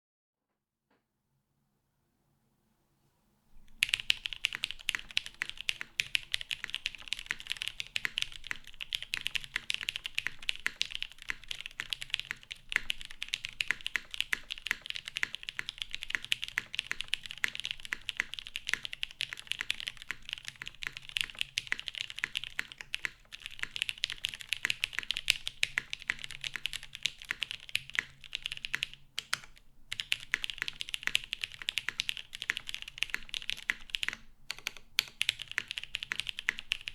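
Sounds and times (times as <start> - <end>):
mechanical keyboard typing: 3.7 - 36.9.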